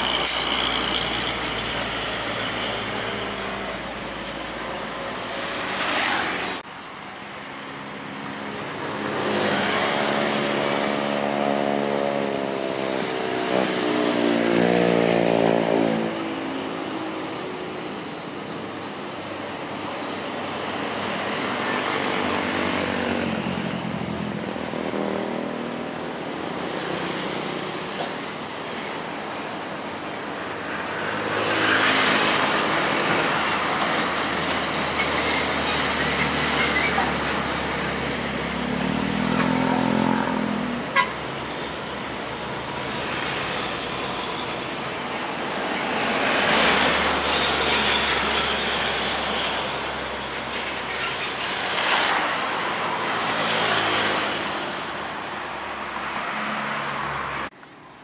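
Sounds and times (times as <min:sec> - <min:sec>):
trucks and motorcycles passing: 0:00.0 - 0:17.7, 0:19.8 - 0:57.6.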